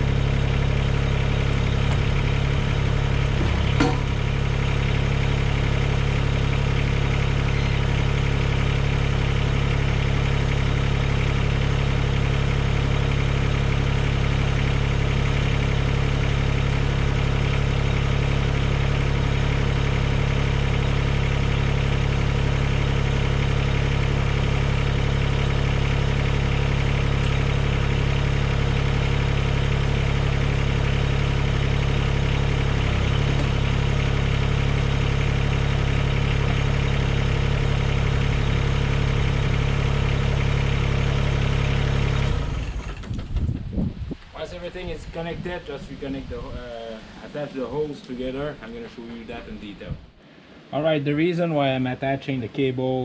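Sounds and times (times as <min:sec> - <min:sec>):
tractor diesel engine idling: 0:00.0 - 0:50.2.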